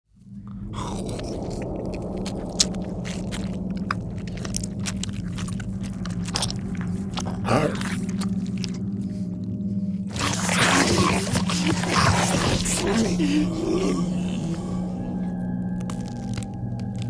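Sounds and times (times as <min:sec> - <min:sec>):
steady low hum: 0:00.1 - 0:17.0
wet crunching and crackling: 0:00.5 - 0:17.0.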